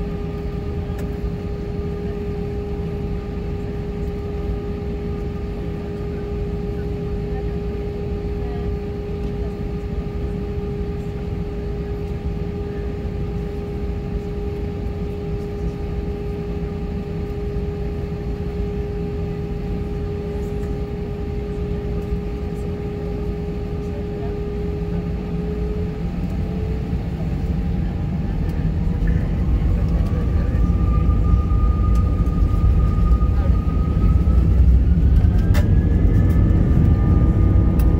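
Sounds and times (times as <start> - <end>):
jet engine whine: 0.0 - 37.9
low engine rumble: 0.0 - 37.9.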